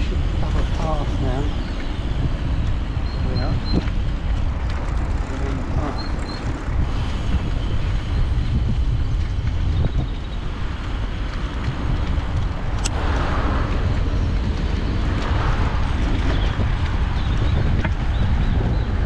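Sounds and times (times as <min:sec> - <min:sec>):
passing traffic: 0:00.0 - 0:19.0
tyres rumbling on tarmac: 0:00.0 - 0:19.0
wind on microphone: 0:00.0 - 0:19.0.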